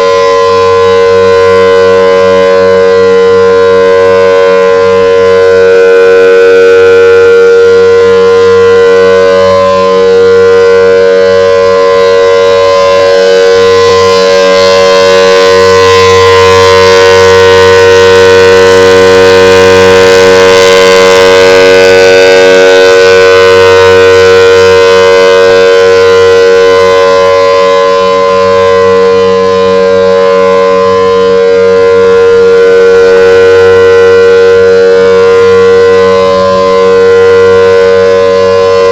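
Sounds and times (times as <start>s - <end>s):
loud outdoor warning siren chord: 0.0s - 38.9s.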